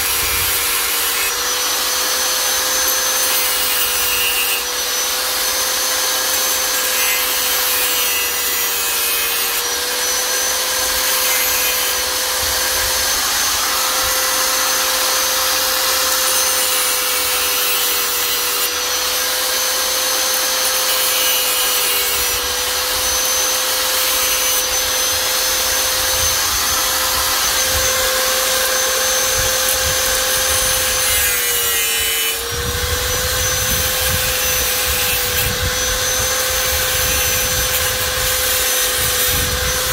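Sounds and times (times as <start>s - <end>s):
power tool motor whine: 0.0s - 39.9s.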